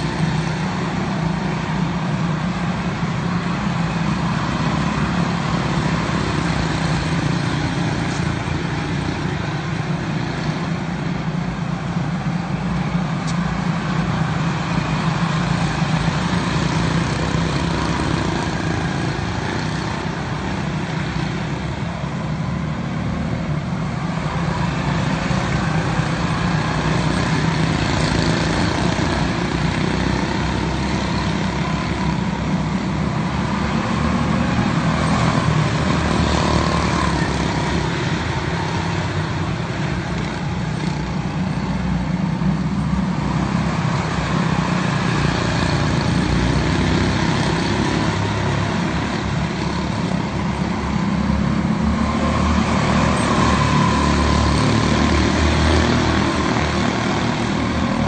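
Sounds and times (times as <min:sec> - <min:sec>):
race car engines droning: 0:00.0 - 0:58.0.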